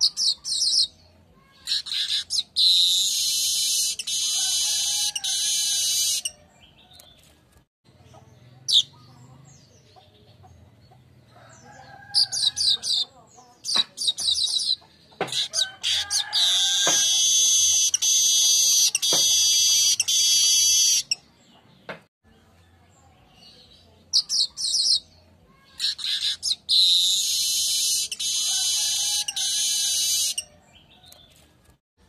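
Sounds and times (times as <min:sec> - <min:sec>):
weaver bird singing: 0:00.0 - 0:07.4, 0:08.0 - 0:31.5.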